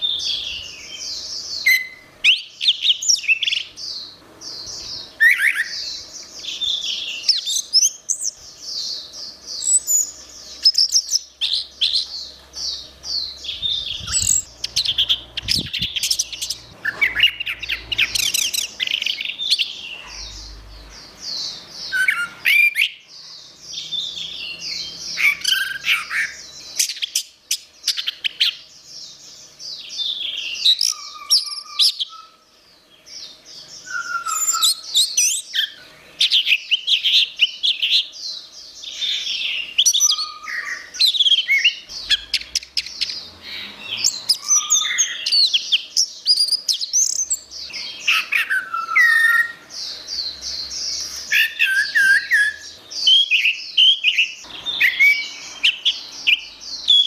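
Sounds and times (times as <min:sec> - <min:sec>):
bird singing trills and whistles: 0:00.0 - 0:57.0.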